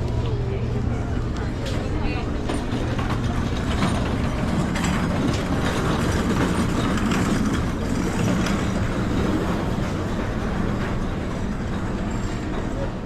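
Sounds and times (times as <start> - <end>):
vehicle rumble and rattle: 0.0 - 13.0.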